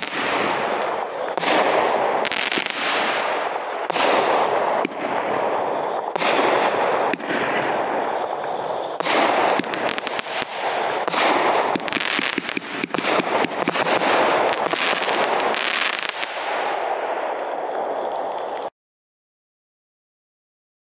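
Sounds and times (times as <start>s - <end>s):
firework shots popping and crackling: 0.0s - 17.6s.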